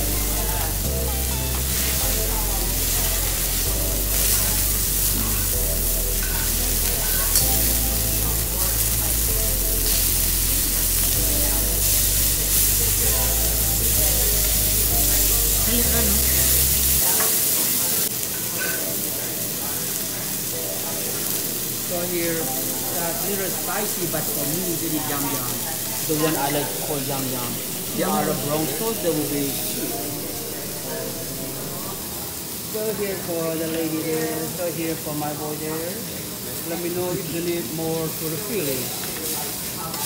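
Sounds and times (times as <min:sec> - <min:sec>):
music playing: 0:00.0 - 0:32.9
steaks sizzling on griddle: 0:00.0 - 0:40.0.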